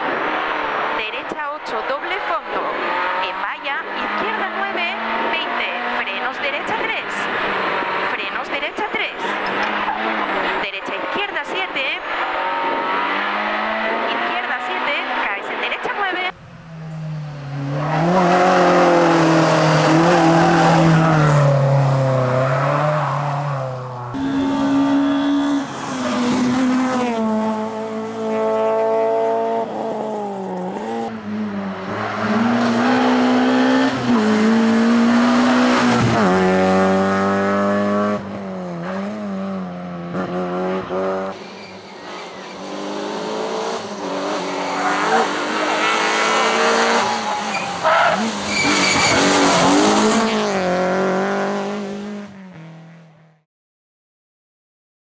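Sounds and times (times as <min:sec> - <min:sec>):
rally car engines at high revs: 0:00.0 - 0:53.3.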